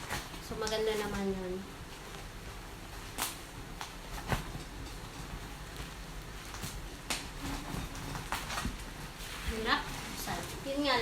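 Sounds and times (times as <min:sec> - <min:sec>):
packaging crinkling: 0:02.0 - 0:10.9.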